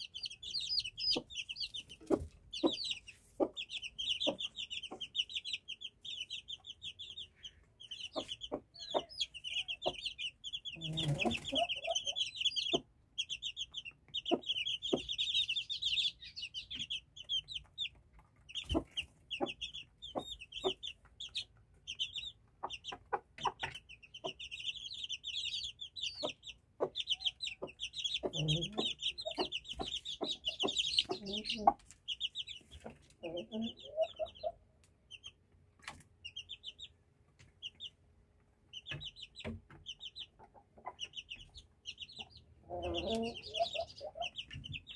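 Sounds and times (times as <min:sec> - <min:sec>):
chicks peeping: 0:00.0 - 0:44.9.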